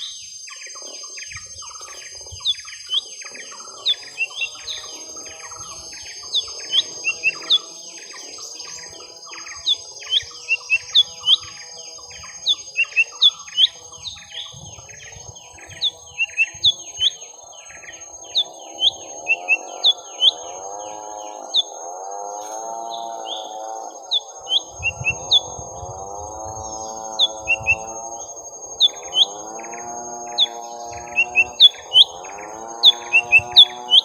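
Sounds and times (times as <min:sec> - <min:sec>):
birds chirping and twittering: 0:00.0 - 0:34.0
low wavering bird call: 0:01.1 - 0:15.0, 0:15.7 - 0:21.8, 0:22.4 - 0:34.0.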